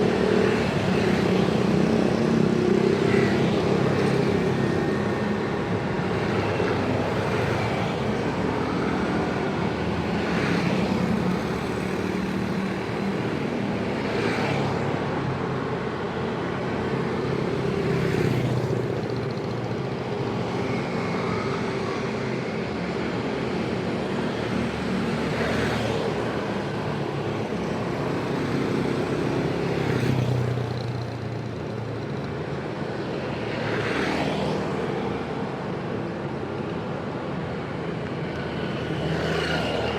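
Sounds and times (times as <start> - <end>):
dense road traffic hum: 0.0 - 39.9
vehicles passing: 0.0 - 39.9.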